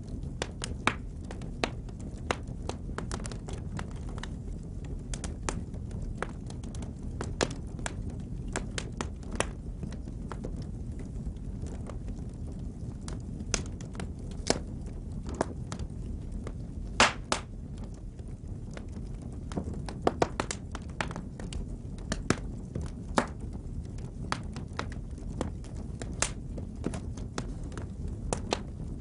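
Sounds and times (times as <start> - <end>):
crackles and pops of logs: 0.0 - 29.0
low rumble of flames: 0.0 - 29.0.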